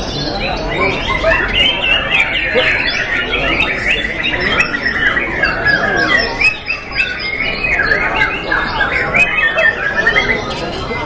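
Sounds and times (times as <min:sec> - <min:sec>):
birds singing in chorus: 0:00.0 - 0:11.0.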